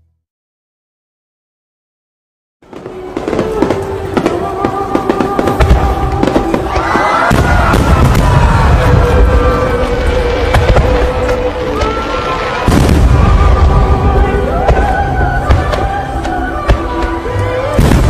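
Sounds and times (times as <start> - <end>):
fireworks bangs and crackles: 2.6 - 18.0.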